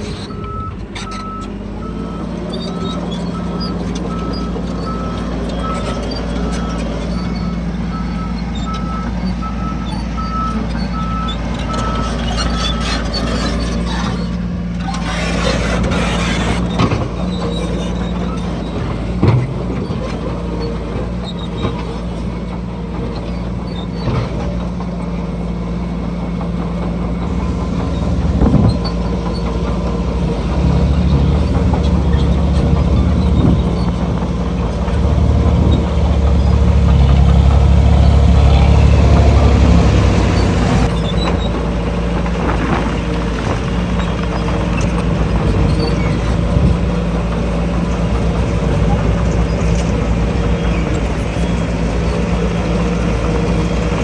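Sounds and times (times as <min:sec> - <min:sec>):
deep engine rumble under load: 0:00.0 - 0:54.0
heavy diesel engines running: 0:00.0 - 0:54.0.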